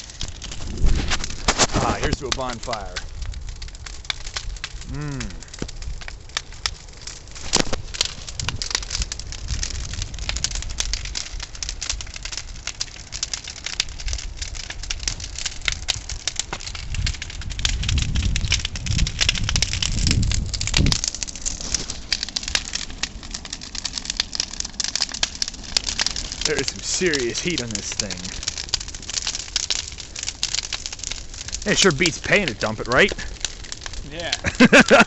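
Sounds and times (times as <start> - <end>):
bonfire crackling and popping: 0.0 - 35.0
low fire rumble: 0.0 - 35.0.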